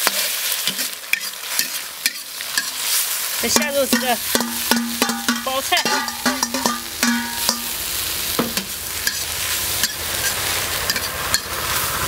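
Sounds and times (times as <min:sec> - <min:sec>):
hot fat sizzling: 0:00.0 - 0:12.0
metal spatula scraping wok: 0:00.0 - 0:12.0.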